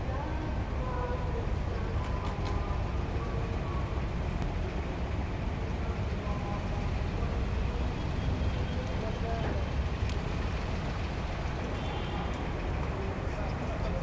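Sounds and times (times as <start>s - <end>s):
boat diesel engine rumbling: 0.0s - 14.0s.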